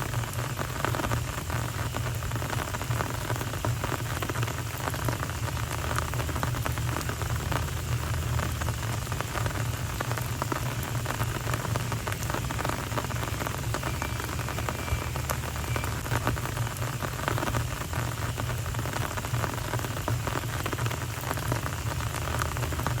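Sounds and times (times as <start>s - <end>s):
rain on pavement: 0.0s - 23.0s.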